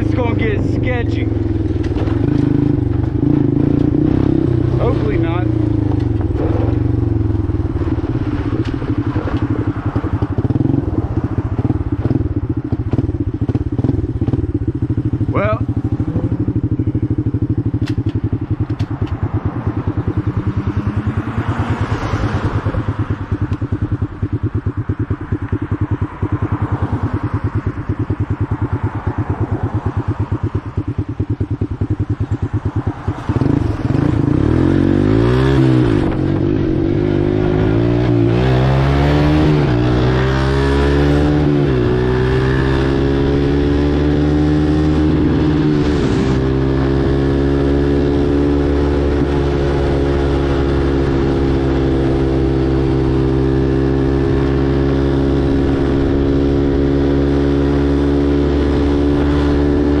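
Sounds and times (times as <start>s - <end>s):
atv engine accelerating: 0.0s - 60.0s.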